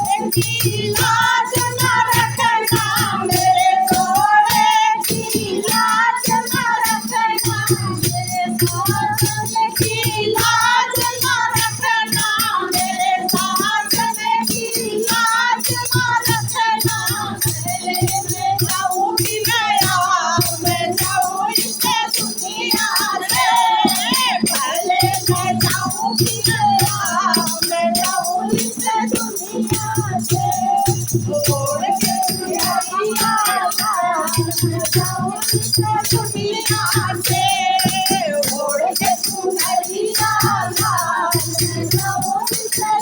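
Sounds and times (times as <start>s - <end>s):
jingling rattle percussion: 0.0s - 43.0s.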